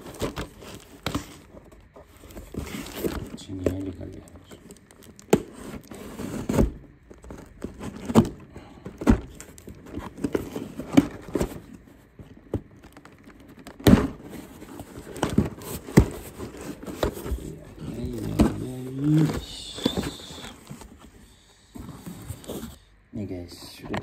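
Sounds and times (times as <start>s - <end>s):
packaging rustling and crinkling: 0.0s - 22.9s.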